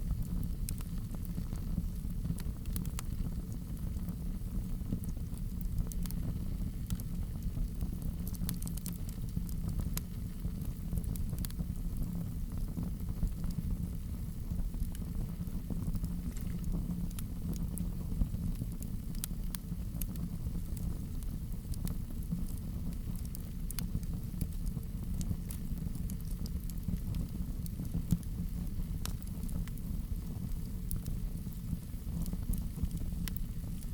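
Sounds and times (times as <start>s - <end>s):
fire crackling and popping: 0.0s - 33.9s
fire rumbling in fireplace: 0.0s - 33.9s.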